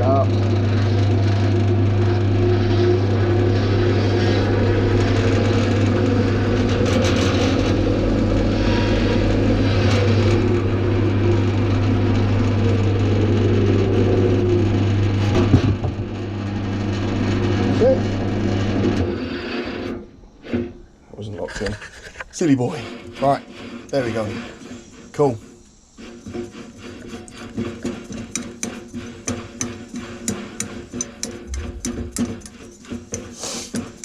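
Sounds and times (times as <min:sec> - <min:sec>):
electric motor hum with whine: 0:00.0 - 0:34.0.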